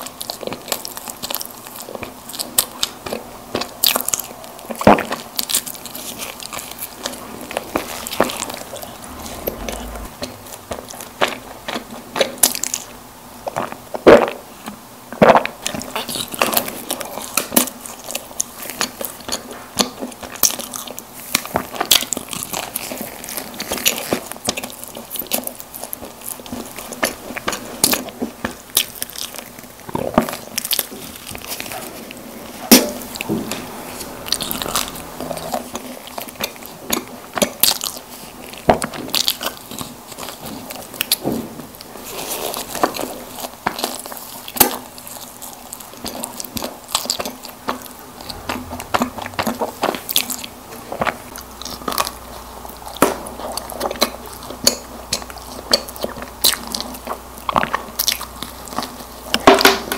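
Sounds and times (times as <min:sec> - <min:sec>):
biting and chewing: 0:00.0 - 0:59.8.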